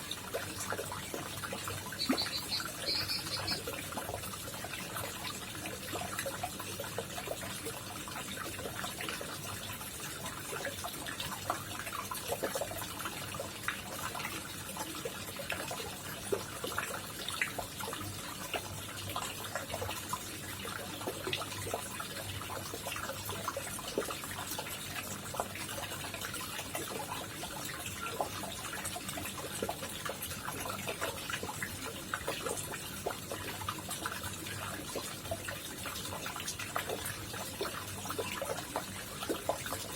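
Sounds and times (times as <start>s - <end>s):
pond water trickling and splashing: 0.0s - 39.9s.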